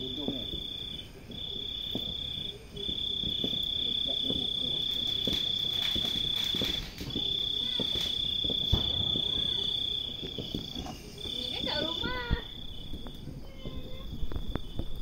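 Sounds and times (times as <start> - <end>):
campfire crackling and popping: 0.0 - 15.0
insect trilling: 0.0 - 15.0.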